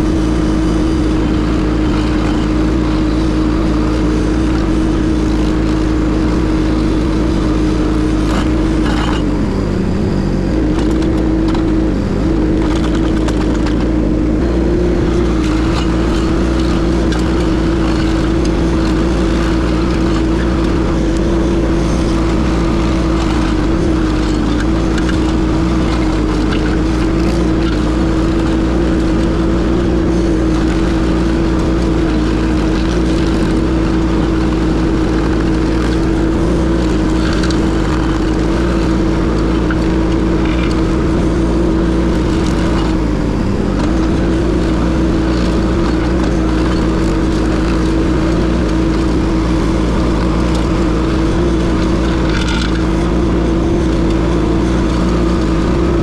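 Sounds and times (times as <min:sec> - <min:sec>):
skid steer engine at high throttle: 0:00.0 - 0:56.0.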